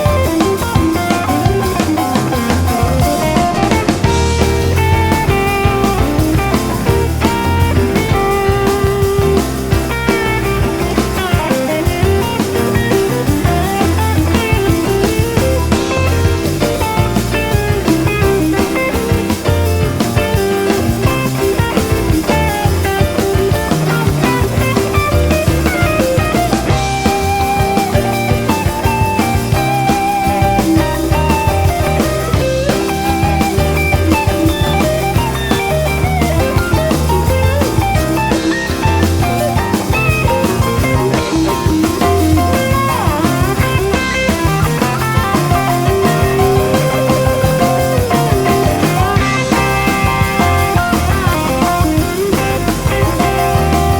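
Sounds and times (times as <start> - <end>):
rock music: 0.0 - 53.9.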